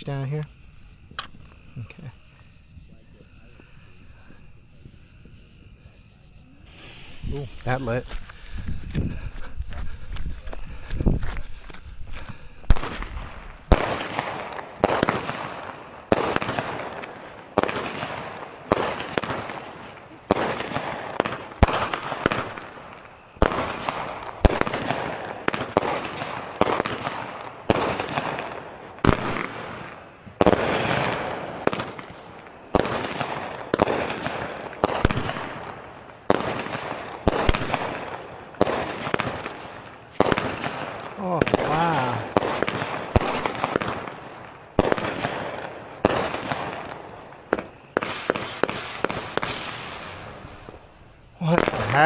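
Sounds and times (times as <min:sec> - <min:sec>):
fireworks crackling: 0:00.0 - 0:52.0
fireworks reports: 0:00.0 - 0:52.0.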